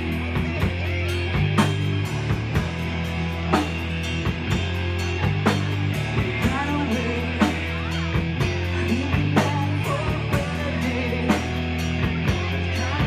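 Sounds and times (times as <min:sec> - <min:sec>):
bass notes: 0:00.0 - 0:13.0
drum kit beat: 0:00.0 - 0:13.0
guitar: 0:00.0 - 0:13.0.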